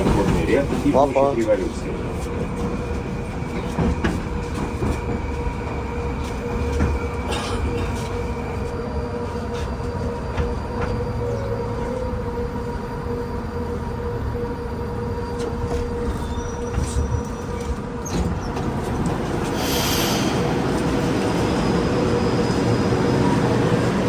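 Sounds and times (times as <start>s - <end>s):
train low rumble and whine: 0.0s - 24.0s.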